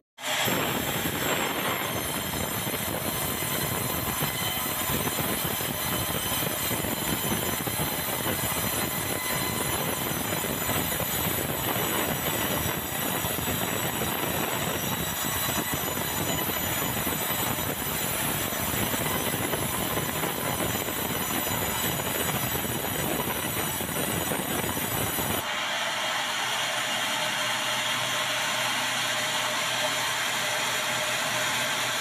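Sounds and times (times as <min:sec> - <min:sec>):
band saw cutting log: 0:00.2 - 0:32.0.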